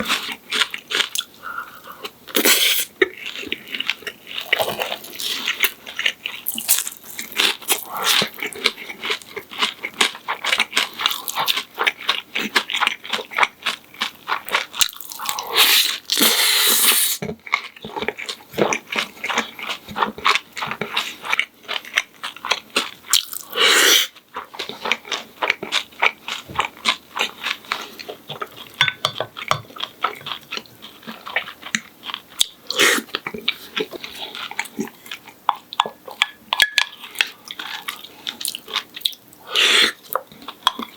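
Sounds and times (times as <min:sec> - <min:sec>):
crunching and chewing fried food: 0:00.0 - 0:40.9.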